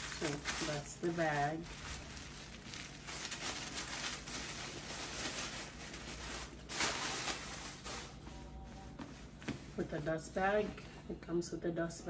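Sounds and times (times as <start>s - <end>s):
tissue paper and cloth rustling: 0.0s - 10.8s.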